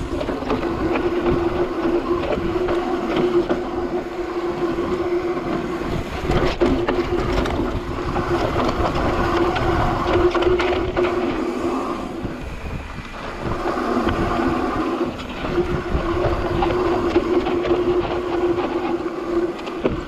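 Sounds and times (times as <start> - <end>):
bike rattling over bumps: 0.0 - 20.0
bike tyres on dirt trail: 0.0 - 20.0.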